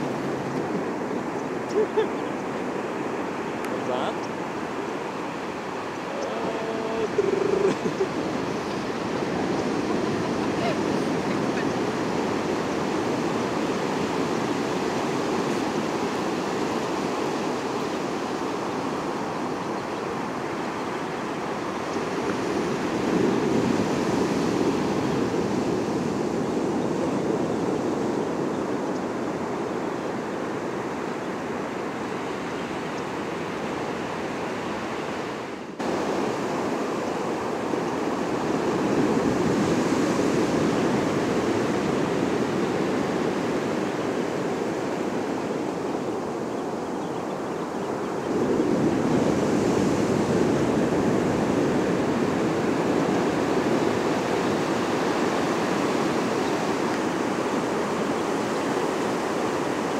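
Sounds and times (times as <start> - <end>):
ocean surf breaking: 0.0 - 28.5, 29.1 - 46.8, 47.6 - 59.9.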